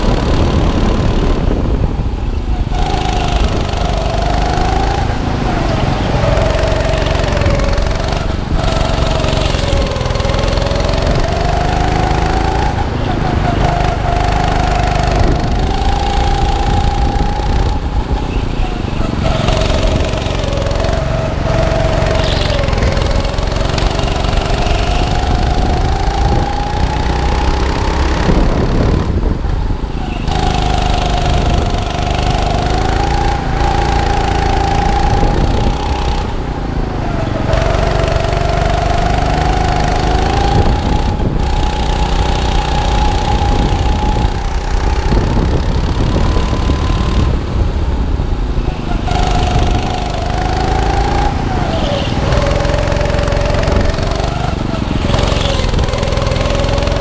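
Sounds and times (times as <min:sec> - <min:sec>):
go-kart engine: 0:00.0 - 0:57.0
road and wind noise: 0:00.0 - 0:57.0.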